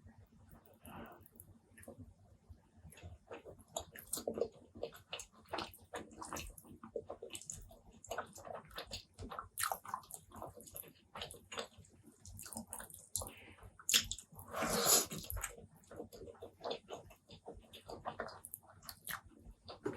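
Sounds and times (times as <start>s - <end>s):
wet chewing mouth sounds: 2.9s - 19.9s.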